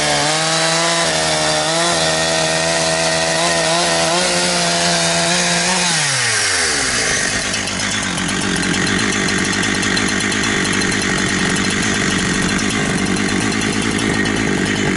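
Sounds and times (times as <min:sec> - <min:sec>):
chainsaw engine revving and idling: 0:00.0 - 0:14.9.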